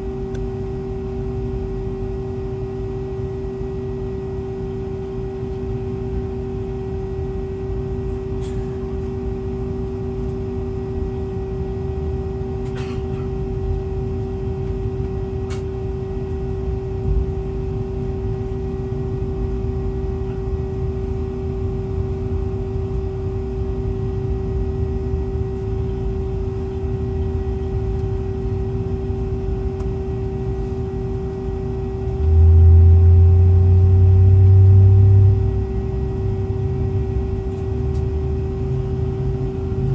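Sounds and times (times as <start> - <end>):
aircraft cabin systems hum: 0.0 - 39.9
loud low drone: 7.5 - 39.9.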